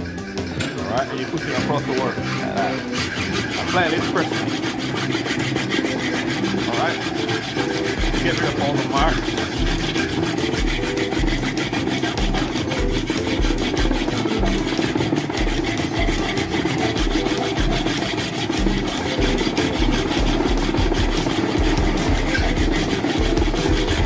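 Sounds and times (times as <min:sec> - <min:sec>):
hand file rasping on metal: 0:00.0 - 0:24.0.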